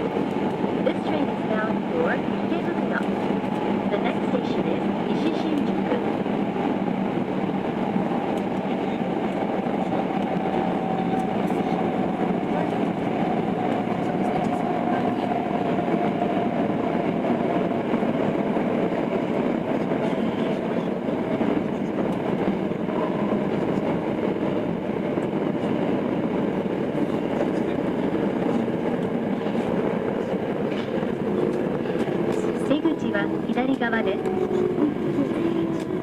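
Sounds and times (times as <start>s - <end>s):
subway train wheel and rail noise: 0.0s - 36.0s.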